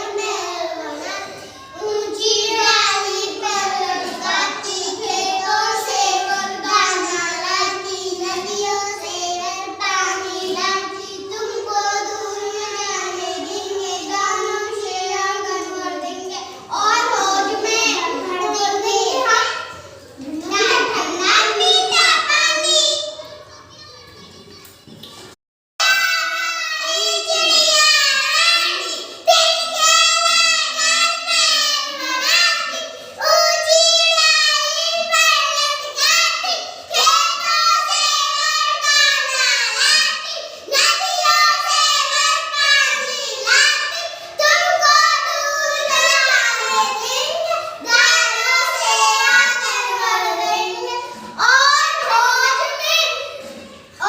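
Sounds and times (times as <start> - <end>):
child singing: 0.0 - 25.0, 25.8 - 54.0.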